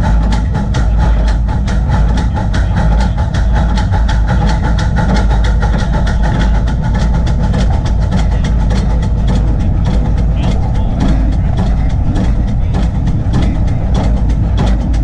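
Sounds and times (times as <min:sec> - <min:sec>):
low rumble: 0:00.0 - 0:15.0
steam locomotive chuffing: 0:00.0 - 0:15.0.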